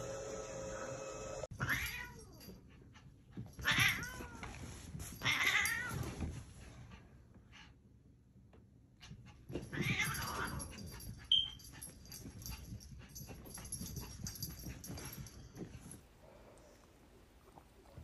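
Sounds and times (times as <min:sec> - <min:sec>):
paws clicking and scuffling: 0:02.3 - 0:07.8, 0:08.5 - 0:18.0.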